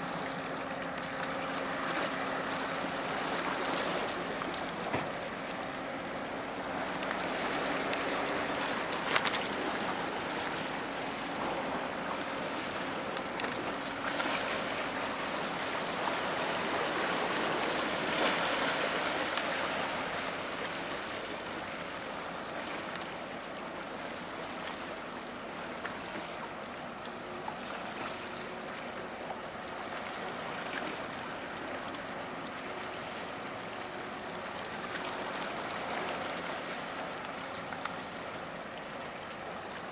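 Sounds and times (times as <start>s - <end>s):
faint low engine hum: 0.0s - 39.9s
rushing water: 0.0s - 39.9s
wind: 0.0s - 39.9s.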